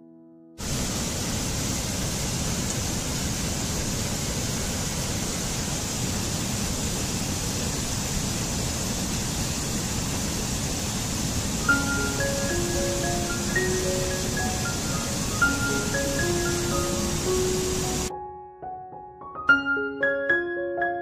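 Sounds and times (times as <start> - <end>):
stream rushing over rocks: 0.6 - 18.1.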